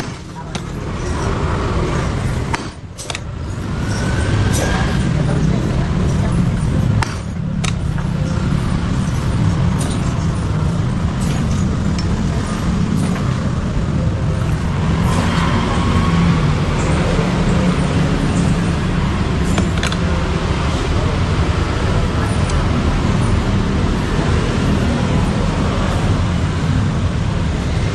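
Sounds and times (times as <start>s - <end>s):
vehicle engine rumbling: 0.0s - 27.9s.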